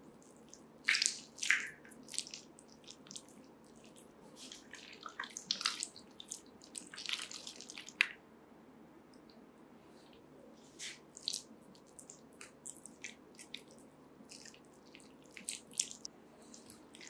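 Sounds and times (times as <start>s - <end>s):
wet clay squelching: 0.2s - 8.2s, 10.1s - 17.0s.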